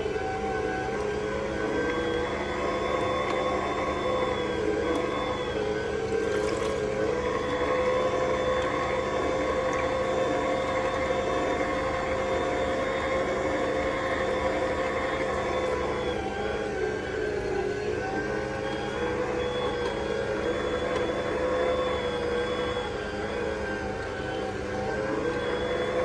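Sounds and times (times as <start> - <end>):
juicer motor whirring: 0.0 - 26.0.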